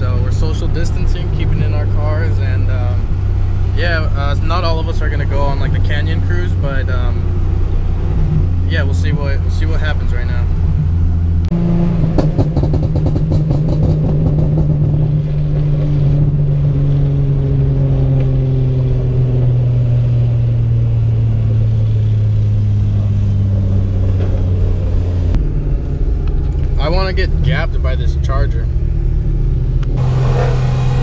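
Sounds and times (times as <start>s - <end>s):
car engine revving: 0.0s - 31.0s
exhaust crackles and pops: 0.0s - 31.0s.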